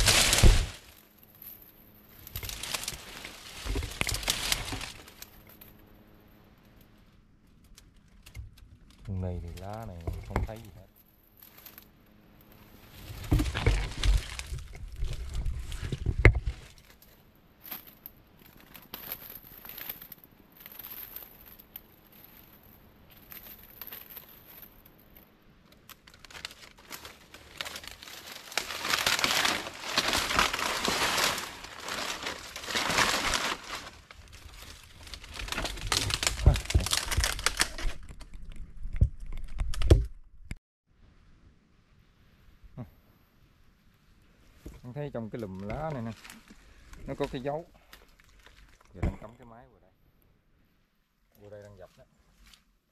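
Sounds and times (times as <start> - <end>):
dead leaves rustling and crackling: 0.0 - 38.6, 44.5 - 49.0.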